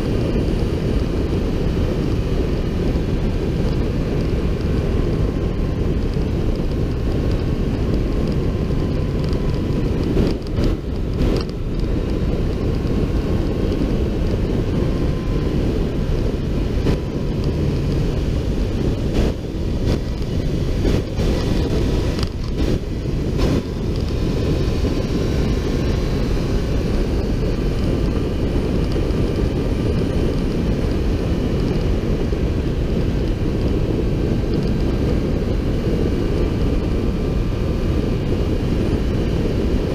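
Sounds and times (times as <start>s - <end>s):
faint motorcycle engine humming: 0.0s - 39.9s
wind rushing over microphone: 0.0s - 39.9s.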